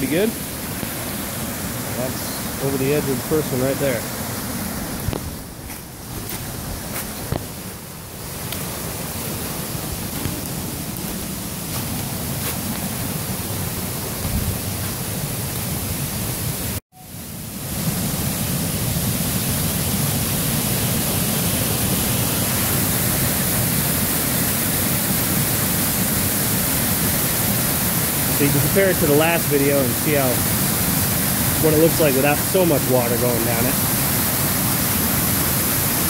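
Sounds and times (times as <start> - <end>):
waterfall rushing: 0.0 - 16.8, 17.4 - 36.0.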